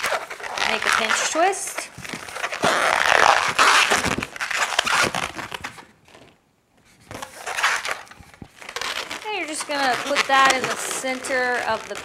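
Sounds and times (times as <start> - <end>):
balloon rubber rubbing and crackling: 0.0 - 12.0.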